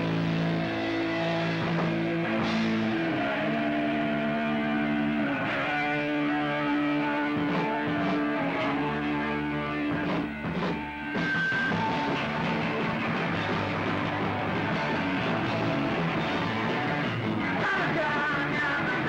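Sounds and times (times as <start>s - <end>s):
bass guitar: 0.0s - 19.0s
electric guitar chords: 0.0s - 19.0s.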